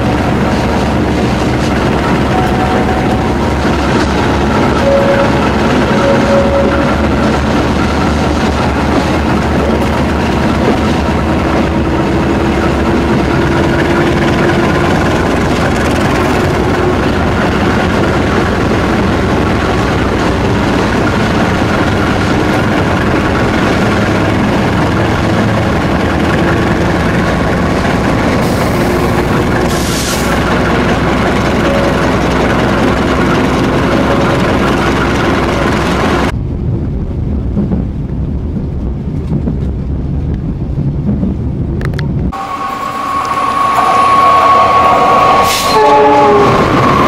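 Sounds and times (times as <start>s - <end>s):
train wheels rumbling and rattling: 0.0s - 47.0s.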